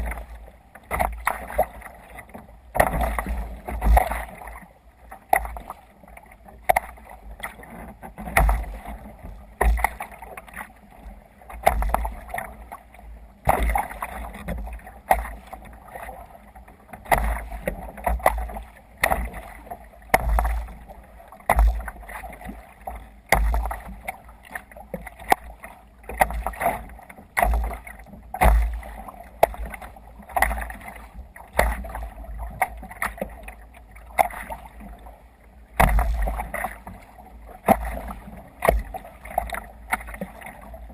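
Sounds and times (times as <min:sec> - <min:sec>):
water splashing against kayak hull: 0:00.0 - 0:40.9.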